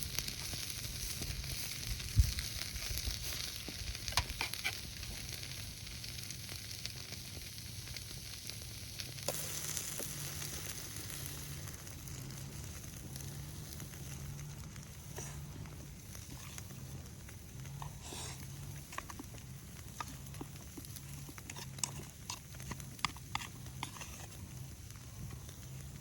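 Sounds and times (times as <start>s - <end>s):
meat sizzling on a griddle: 0.0s - 26.0s.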